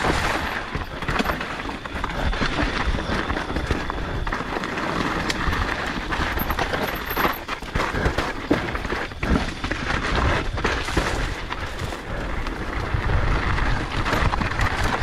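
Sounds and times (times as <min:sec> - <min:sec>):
bike knocking and rattling: 0:00.0 - 0:15.0
tyres crunching over dirt and rock: 0:00.0 - 0:15.0
wind rumbling on microphone: 0:00.0 - 0:15.0.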